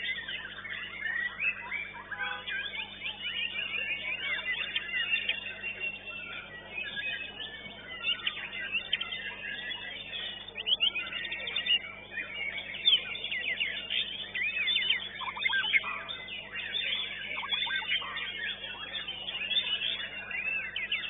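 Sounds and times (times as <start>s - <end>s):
bird singing whistled trills: 0.0s - 21.0s.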